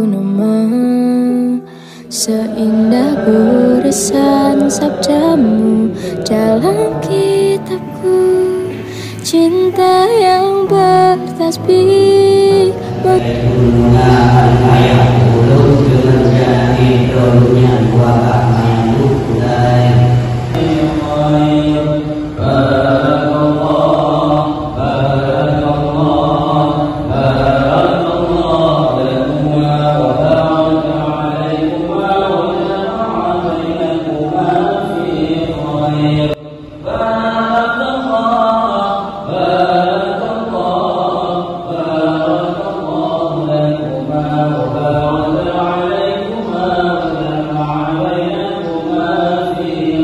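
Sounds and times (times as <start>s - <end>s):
devotional chant singing: 0.0s - 50.0s.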